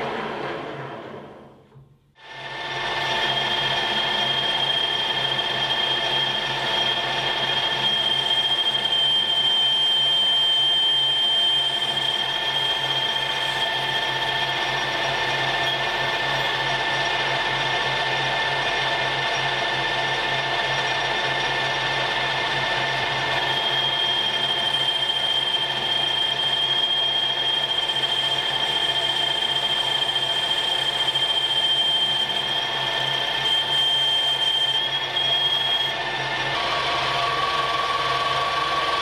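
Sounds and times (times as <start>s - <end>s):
metal lathe whining: 2.4s - 18.8s, 20.8s - 39.0s.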